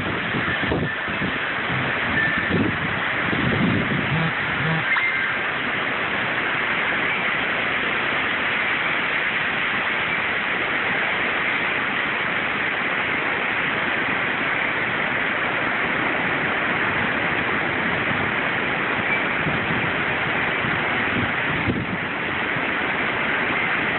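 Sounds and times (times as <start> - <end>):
heavy rain: 0.0 - 23.9
wind: 0.0 - 23.9.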